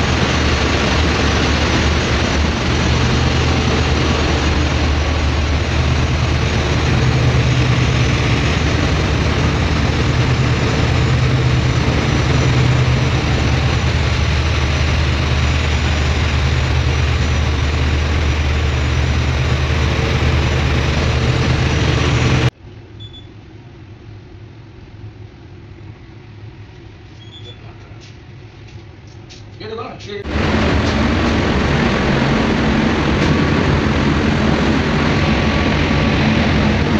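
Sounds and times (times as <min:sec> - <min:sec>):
marine diesel engines droning: 0:00.0 - 0:22.5, 0:29.0 - 0:36.9.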